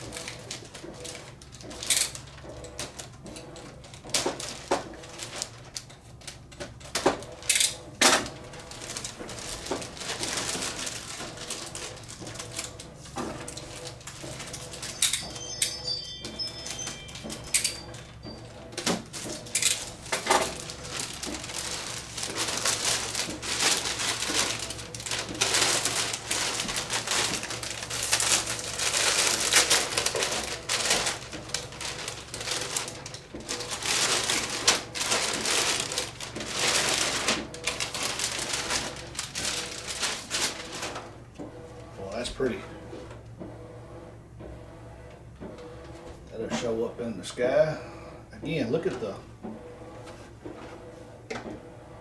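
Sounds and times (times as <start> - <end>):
plastic packaging rustling: 0.0 - 42.6.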